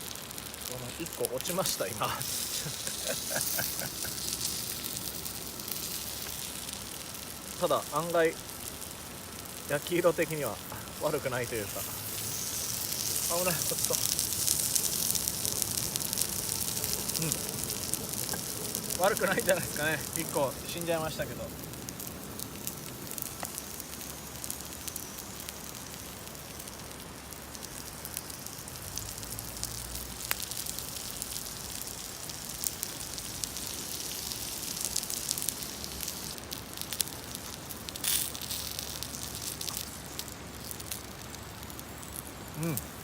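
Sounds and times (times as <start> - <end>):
dumplings sizzling in a pan: 0.0 - 43.0
fire crackling: 0.0 - 43.0.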